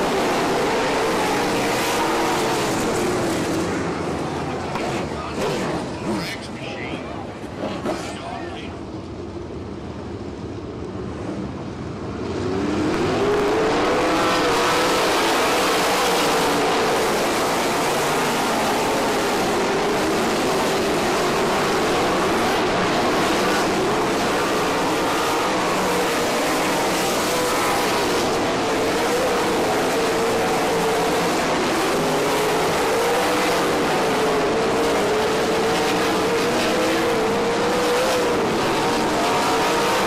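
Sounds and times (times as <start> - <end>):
race car engines at full throttle: 0.0 - 40.0.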